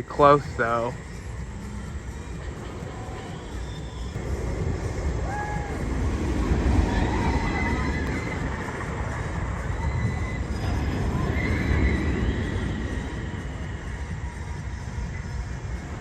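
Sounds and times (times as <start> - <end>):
high wavering squeals: 0.0 - 16.0
roller coaster rumbling on track: 0.0 - 16.0.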